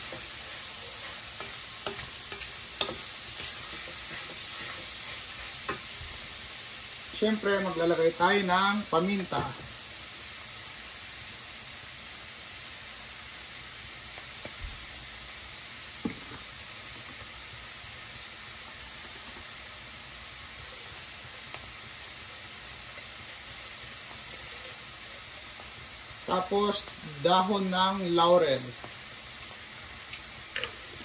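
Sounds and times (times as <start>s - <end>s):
clams sizzling in a pan: 0.0s - 31.0s.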